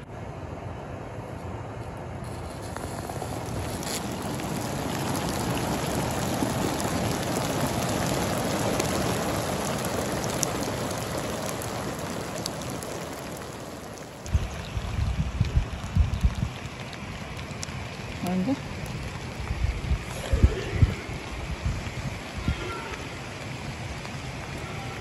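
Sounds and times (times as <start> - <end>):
rain falling on grass: 2.2 - 25.0
raindrop ticks: 2.4 - 25.0.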